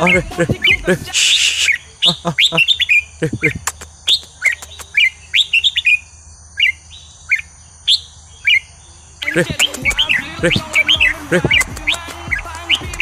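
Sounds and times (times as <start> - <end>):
bird whistled song: 0.0 - 13.0.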